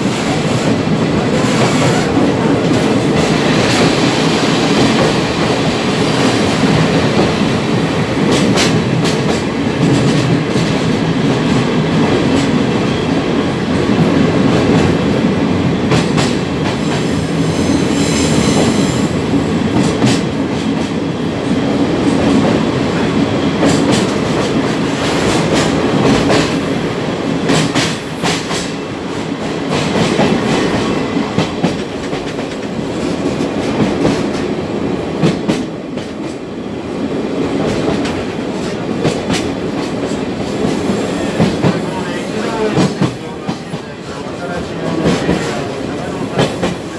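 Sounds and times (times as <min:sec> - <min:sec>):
rumble of wheels on rail: 0:00.0 - 0:46.9.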